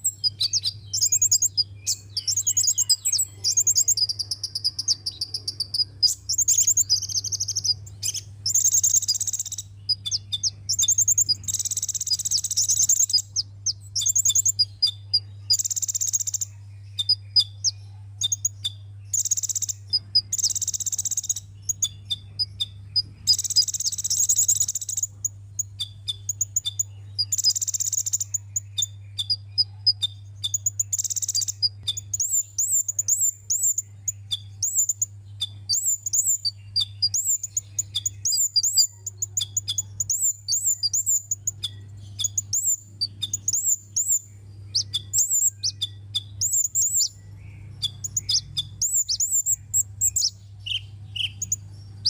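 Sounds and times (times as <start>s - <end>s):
bird twittering trills: 0.0s - 52.0s.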